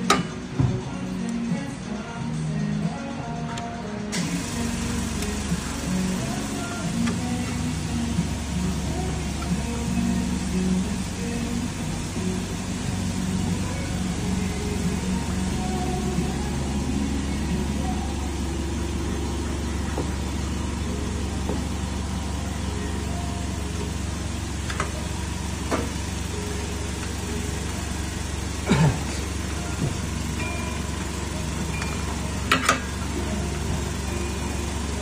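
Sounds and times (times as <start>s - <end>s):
low hum: 4.2s - 35.0s.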